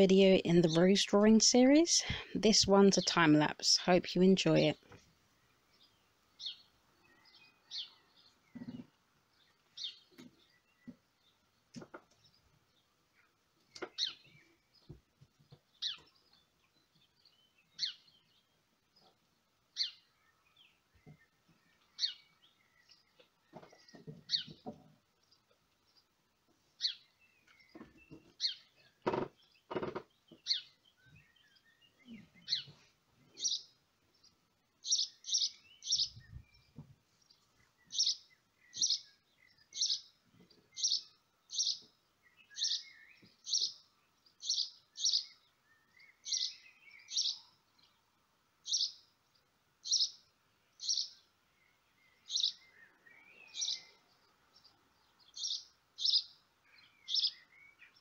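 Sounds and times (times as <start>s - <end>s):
small bird chirping: 5.7s - 26.1s, 26.8s - 48.0s, 48.6s - 58.0s.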